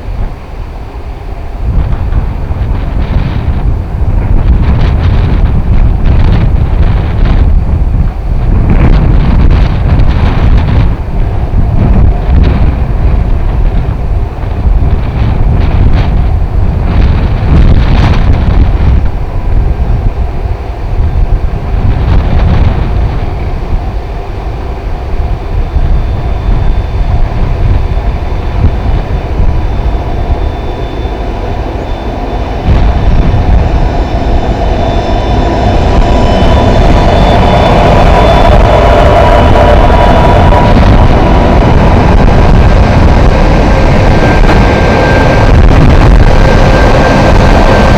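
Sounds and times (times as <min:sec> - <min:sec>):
freight train running slowly: 0:00.0 - 0:47.9
wind buffeting microphone: 0:00.0 - 0:47.9.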